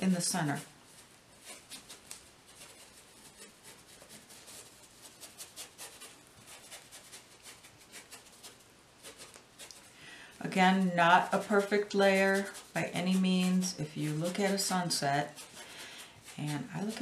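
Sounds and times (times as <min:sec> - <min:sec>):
scratchy paintbrush strokes: 0:00.0 - 0:17.0.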